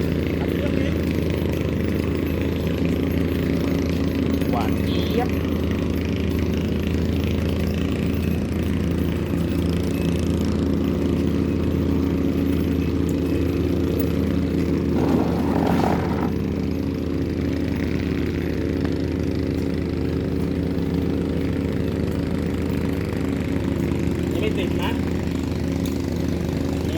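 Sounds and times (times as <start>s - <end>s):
small engine idling: 0.0s - 26.9s.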